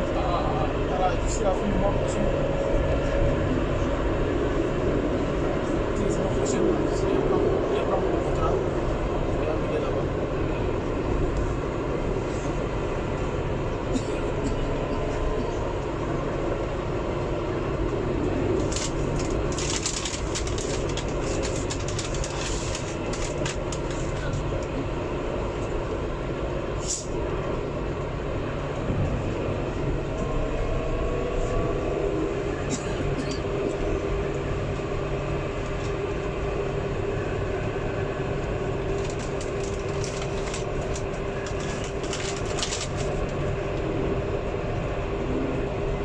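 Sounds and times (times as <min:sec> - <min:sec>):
tram wheels rumbling on rail: 0:00.0 - 0:46.0.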